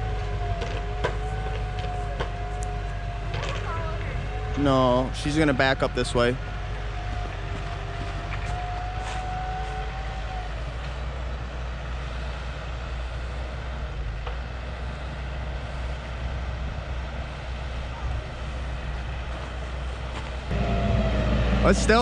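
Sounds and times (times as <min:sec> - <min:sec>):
heavy vehicle engine drone: 0:00.0 - 0:22.0.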